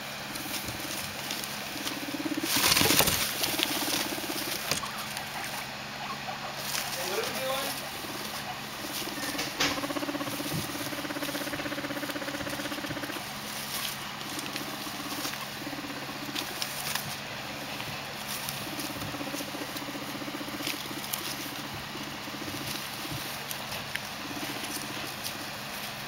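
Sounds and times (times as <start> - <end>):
guinea pig purring: 0.0 - 26.0.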